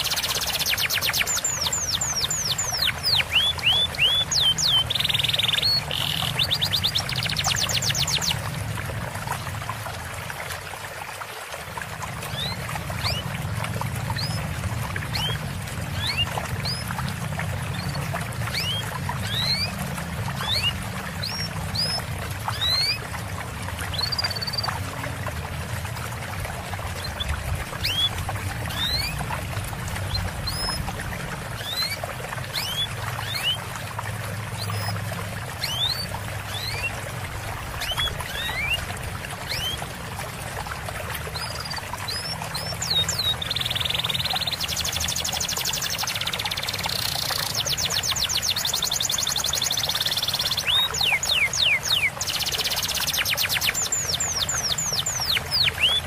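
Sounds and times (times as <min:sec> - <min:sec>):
songbird chirps: 0:00.0 - 0:08.6, 0:12.2 - 0:23.1, 0:26.9 - 0:40.0, 0:41.1 - 0:56.0
water trickling and gurgling: 0:00.0 - 0:56.0.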